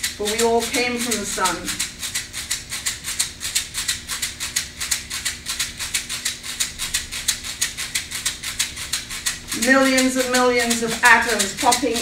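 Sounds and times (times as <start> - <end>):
hand rattle shaken: 0.0 - 12.0.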